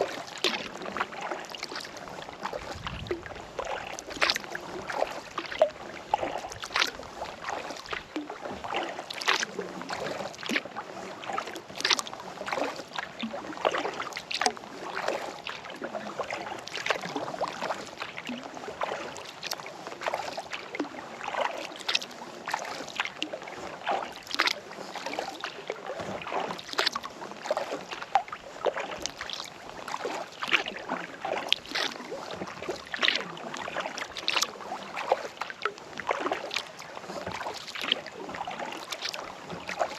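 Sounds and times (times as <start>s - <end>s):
paddle splashing in water: 0.0s - 39.9s
water dripping off paddle: 0.0s - 39.9s.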